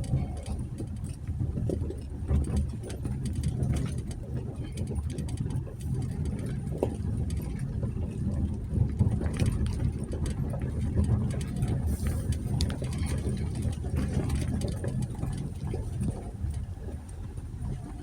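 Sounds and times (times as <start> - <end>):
engine low rumble: 0.0 - 18.0.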